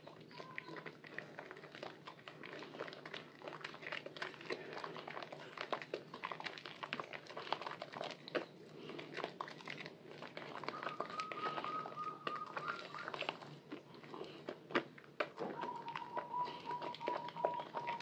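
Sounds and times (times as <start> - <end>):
crackles of bursting bubbles: 0.0 - 18.0
wet squishing of soap lather: 0.0 - 18.0.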